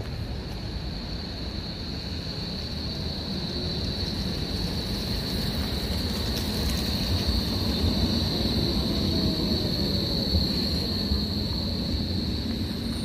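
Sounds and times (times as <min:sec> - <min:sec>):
high-pitched whine: 0:00.0 - 0:13.0
tram rolling past: 0:00.0 - 0:13.0.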